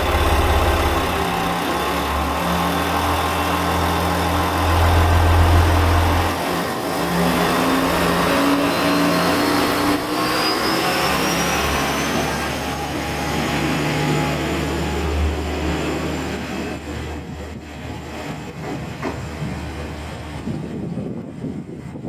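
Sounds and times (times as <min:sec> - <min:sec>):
diesel railcar engine drone: 0:00.0 - 0:22.0.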